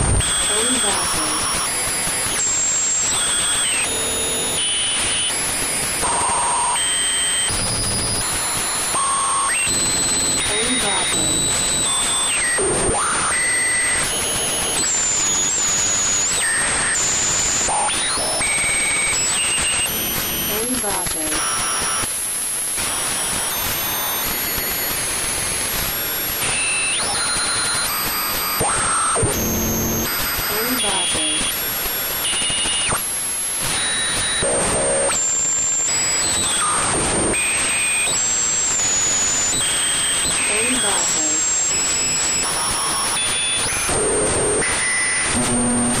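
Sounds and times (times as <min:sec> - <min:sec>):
hissing static: 0:00.0 - 0:46.0.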